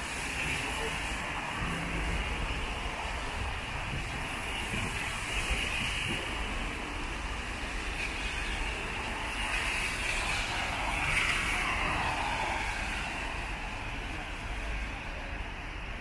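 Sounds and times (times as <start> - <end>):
tyres hissing on wet road: 0.0 - 16.0.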